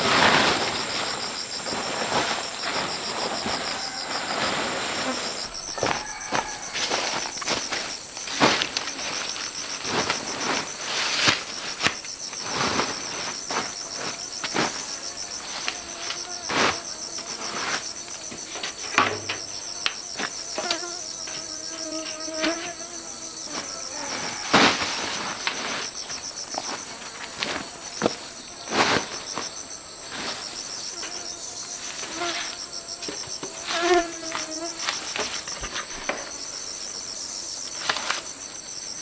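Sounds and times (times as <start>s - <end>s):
insects chirping in pulsing trill: 0.0s - 39.0s.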